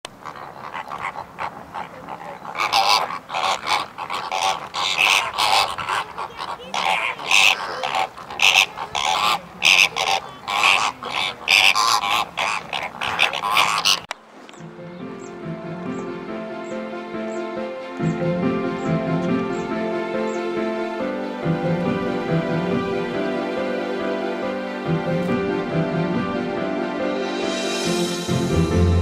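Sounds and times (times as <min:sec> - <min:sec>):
flamingos honking: 0:00.0 - 0:27.9.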